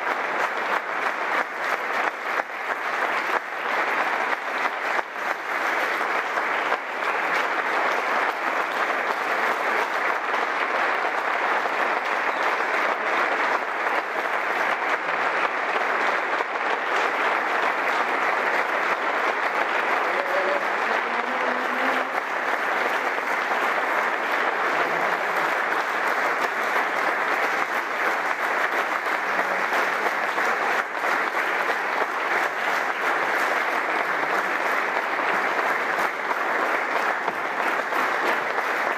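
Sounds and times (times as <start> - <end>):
crowd applause: 0.0 - 38.9.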